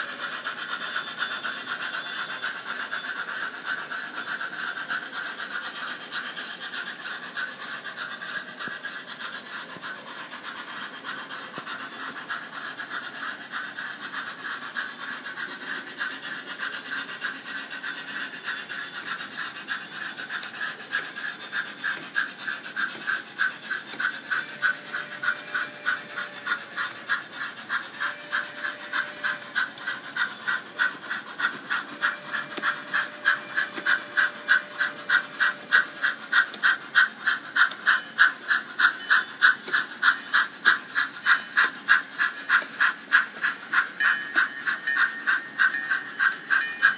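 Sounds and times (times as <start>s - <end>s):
model steam locomotive chuffing: 0.0s - 46.9s.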